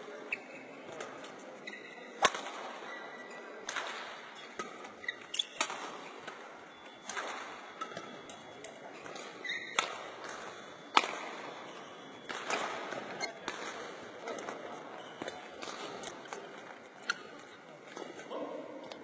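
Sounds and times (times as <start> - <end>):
rackets hitting shuttlecock: 0.9 - 18.3.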